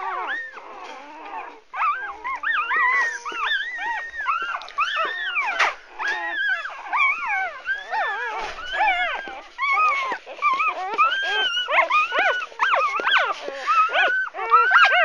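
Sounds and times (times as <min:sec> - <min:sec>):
puppies whining and squealing: 0:00.0 - 0:15.0.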